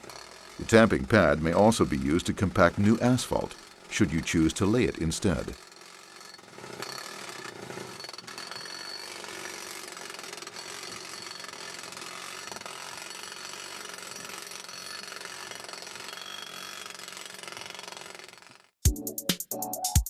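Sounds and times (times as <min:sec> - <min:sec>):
gas-powered breaker hammering: 0:00.0 - 0:18.5.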